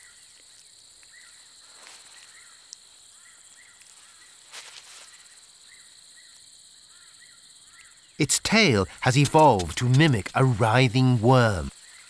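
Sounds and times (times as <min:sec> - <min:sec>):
insect chirps: 0:00.0 - 0:12.0.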